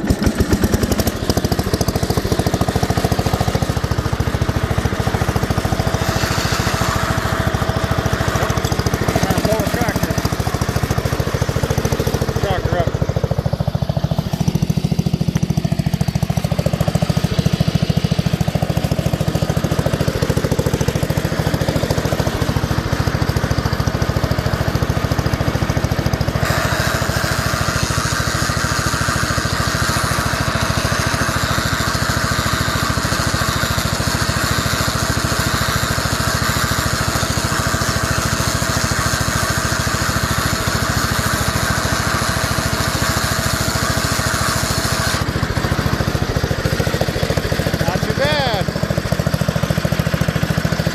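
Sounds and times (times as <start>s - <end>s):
tractor engine running under load: 0.0s - 50.9s.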